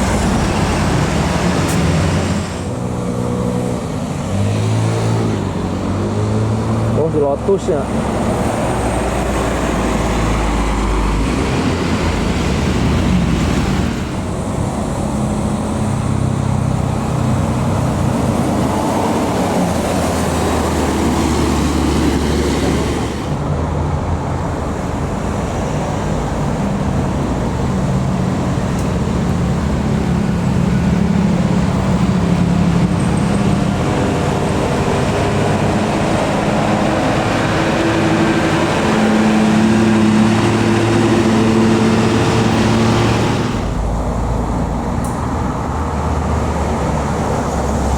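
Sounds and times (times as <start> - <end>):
heavy vehicle engine drone: 0.0 - 47.9.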